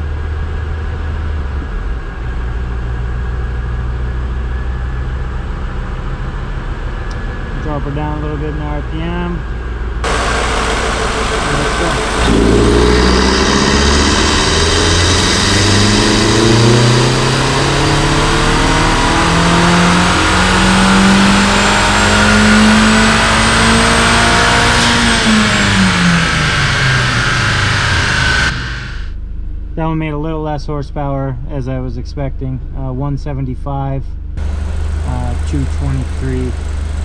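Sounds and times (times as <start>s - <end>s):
car engine revving at full throttle: 1.3s - 29.2s, 34.4s - 37.0s.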